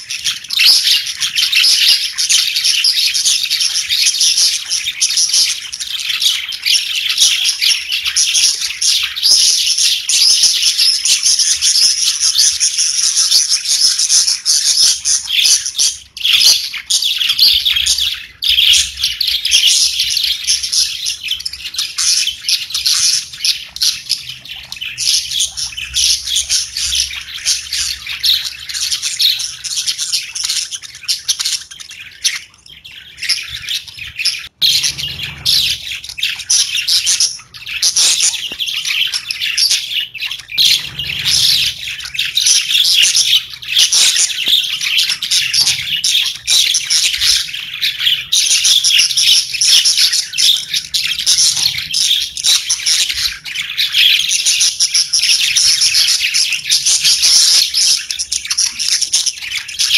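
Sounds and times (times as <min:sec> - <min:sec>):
budgerigars chirping: 0:00.0 - 0:59.9.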